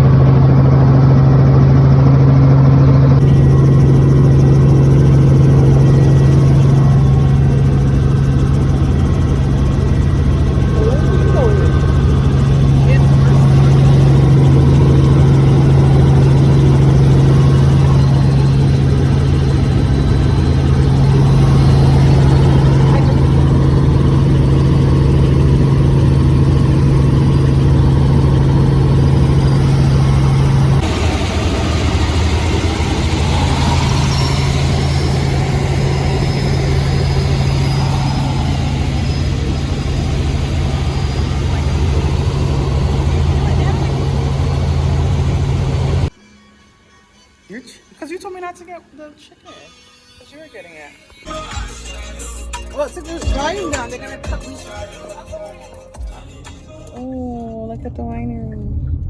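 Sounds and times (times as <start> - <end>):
helicopter cabin drone: 0.0 - 46.2, 51.3 - 59.0.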